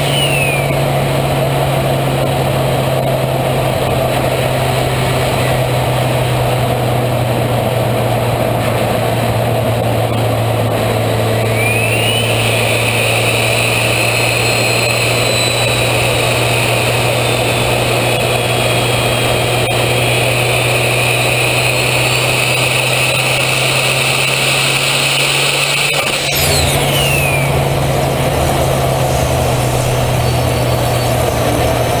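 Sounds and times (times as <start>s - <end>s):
sharp whine sweeping down: 0.0s - 6.2s, 10.7s - 32.0s
car engine idling: 0.0s - 32.0s
high whine: 0.0s - 32.0s
turbo air intake: 0.0s - 32.0s.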